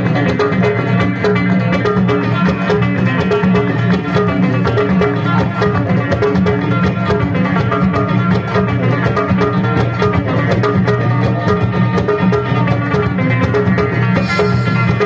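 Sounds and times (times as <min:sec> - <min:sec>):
live band through loudspeakers: 0:00.0 - 0:15.0
plucked string instruments: 0:00.0 - 0:15.0.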